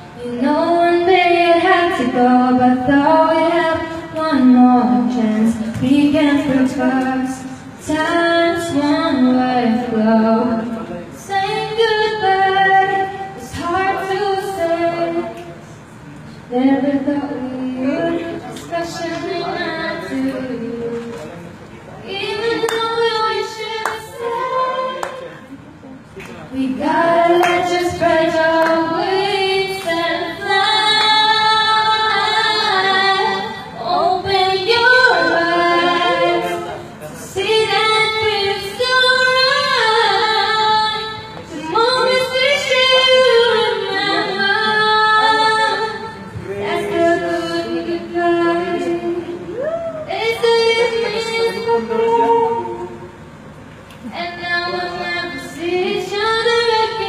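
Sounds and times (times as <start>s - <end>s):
woman singing into microphone: 0.0s - 15.6s, 16.4s - 21.3s, 22.0s - 25.5s, 26.5s - 53.2s, 54.0s - 57.0s.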